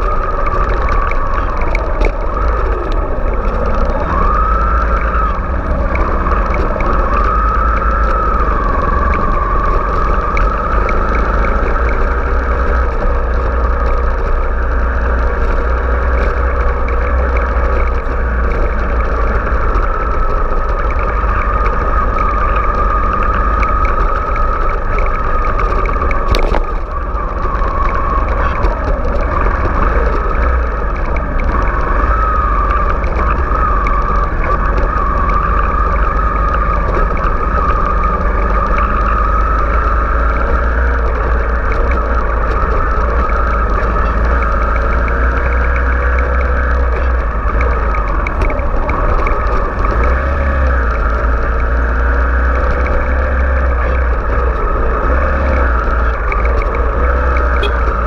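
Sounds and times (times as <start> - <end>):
heavy low rumble: 0.0 - 58.0
motorcycle engine running: 0.0 - 58.0.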